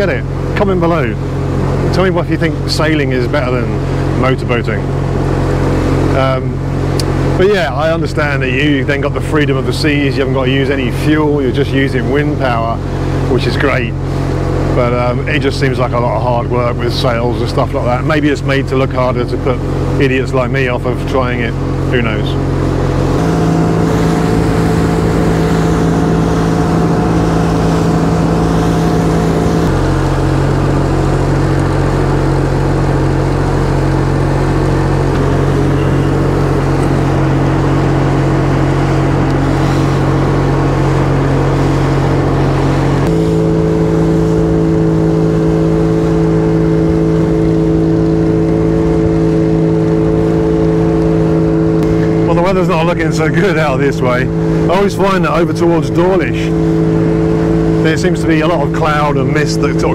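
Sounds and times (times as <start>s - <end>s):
wind and water rushing: 0.0s - 16.9s, 17.5s - 59.9s
motorboat engine running: 0.0s - 59.9s.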